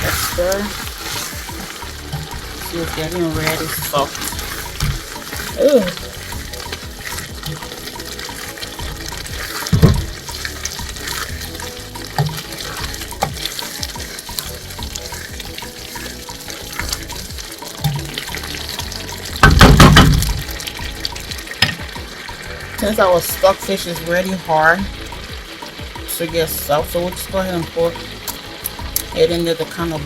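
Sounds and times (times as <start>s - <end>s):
pot bubbling at the boil: 0.0s - 30.0s.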